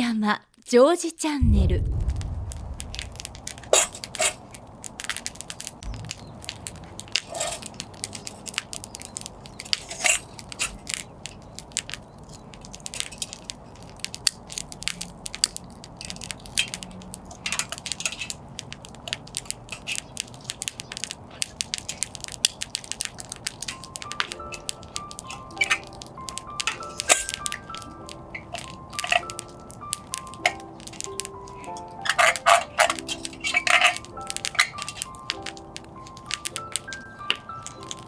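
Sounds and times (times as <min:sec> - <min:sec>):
campfire crackling: 0:01.4 - 0:38.0
loud fire pops: 0:01.4 - 0:38.0.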